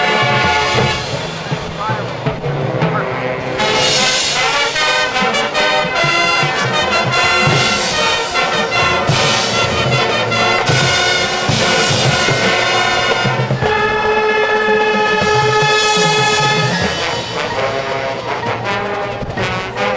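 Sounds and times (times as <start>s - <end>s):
marching band playing: 0.0s - 19.9s
percussion accents: 0.0s - 19.9s
trumpets and trombones: 0.0s - 19.9s.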